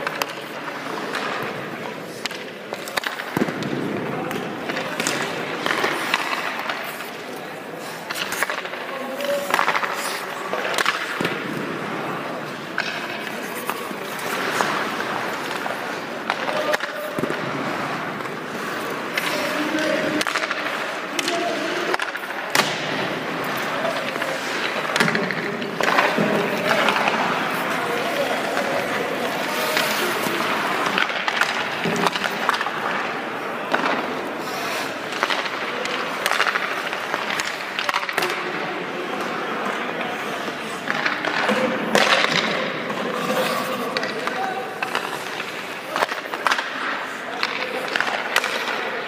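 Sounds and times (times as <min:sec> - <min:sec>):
stick clacking on puck: 0:00.0 - 0:11.9, 0:12.5 - 0:38.6, 0:39.2 - 0:49.0
skate blades scraping ice: 0:04.2 - 0:38.4, 0:40.1 - 0:49.0.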